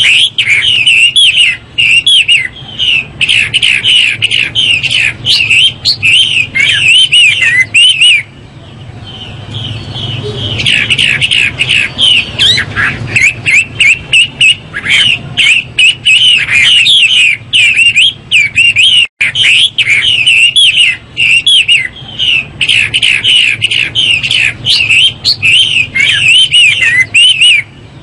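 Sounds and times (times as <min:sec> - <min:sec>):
bird singing whistled phrases: 0:00.0 - 0:08.3, 0:09.1 - 0:27.7.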